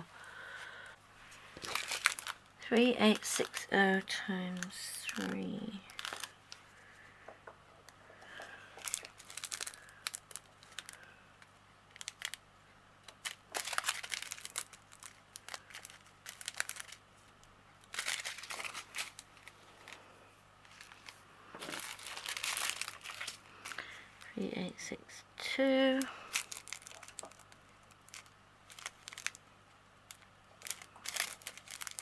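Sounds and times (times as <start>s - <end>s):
plastic bags crinkling: 0.0s - 7.0s, 8.2s - 12.4s, 13.1s - 24.9s, 25.8s - 32.0s.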